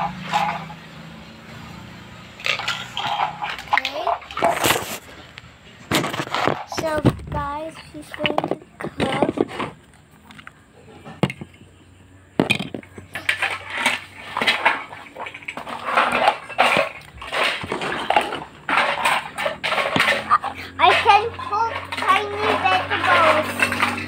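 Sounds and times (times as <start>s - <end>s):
plastic toy pots clattering: 0.0s - 11.8s, 12.4s - 24.0s.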